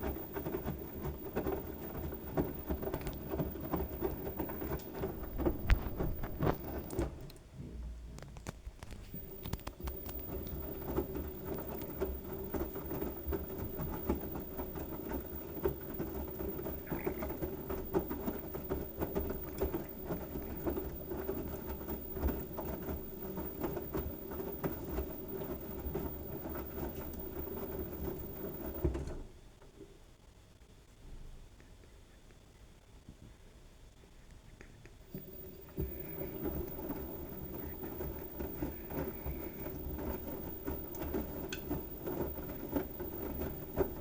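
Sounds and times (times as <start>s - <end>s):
rapid rattling and clicking: 0.0s - 7.4s, 8.2s - 29.2s, 35.1s - 44.0s
washing machine hum: 0.0s - 29.9s, 35.0s - 44.0s.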